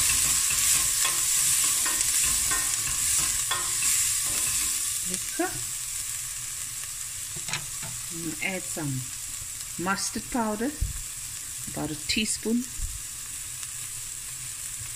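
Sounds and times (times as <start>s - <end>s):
vegetables sizzling in oil: 0.0s - 14.9s.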